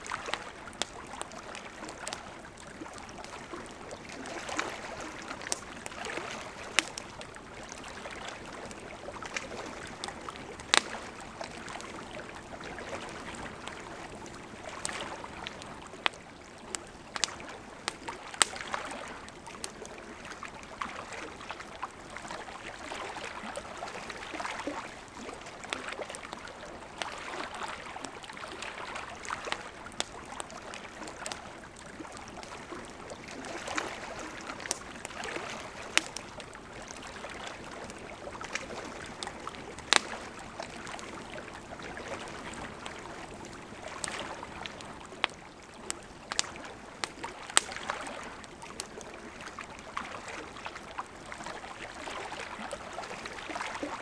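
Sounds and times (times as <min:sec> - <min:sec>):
campfire crackling and hissing: 0:00.0 - 0:54.0.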